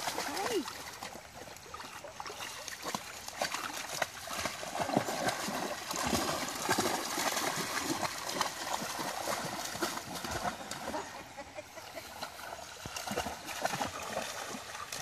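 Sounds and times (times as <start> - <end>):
splashing through shallow water: 0.0 - 15.0.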